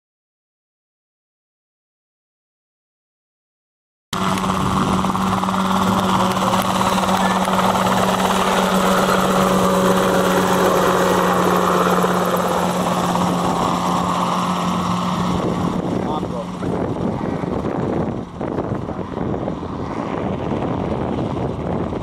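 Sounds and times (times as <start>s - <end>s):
helicopter engine and rotor drone: 4.2s - 22.0s.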